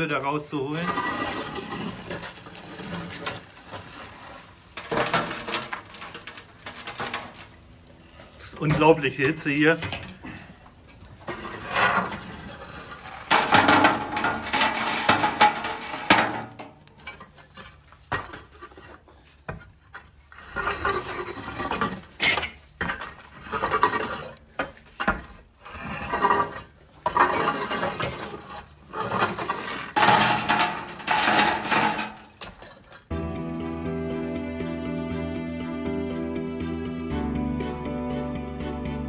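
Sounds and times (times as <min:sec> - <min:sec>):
rake scraping embers on oven floor: 0:00.0 - 0:33.1.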